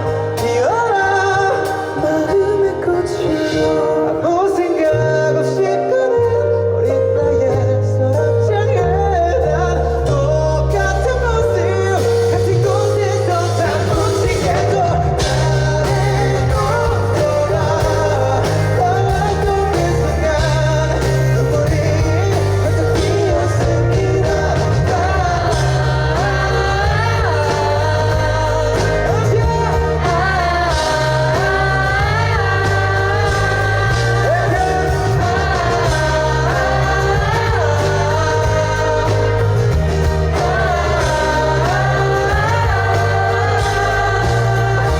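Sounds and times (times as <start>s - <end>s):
man singing pop-rock ballad: 0.0s - 44.9s
musical accompaniment with pulsing bass: 0.0s - 44.9s.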